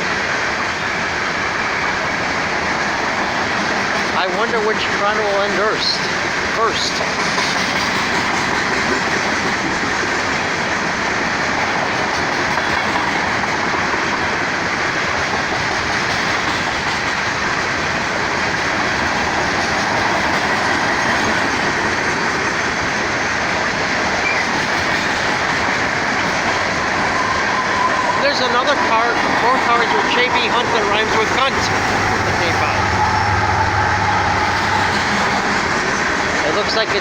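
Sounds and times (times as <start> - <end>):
freight train wheels rumbling on rails: 0.0 - 37.0.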